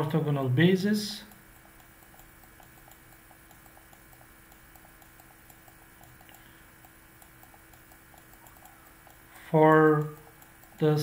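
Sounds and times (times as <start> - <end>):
low steady hum: 0.0 - 11.0
quick even ticking: 0.9 - 11.0.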